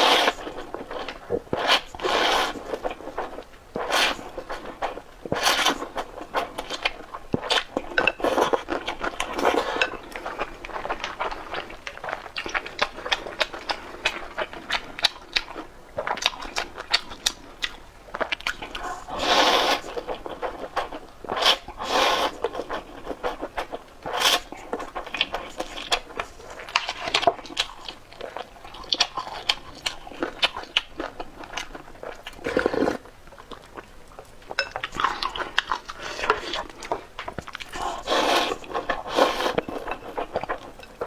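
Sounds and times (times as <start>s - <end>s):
mouth eating sounds: 3.8s - 41.0s.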